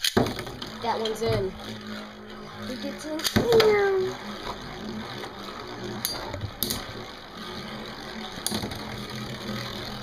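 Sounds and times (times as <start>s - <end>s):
spinning tops clacking: 0.0s - 10.0s
spinning tops whirring: 0.0s - 10.0s.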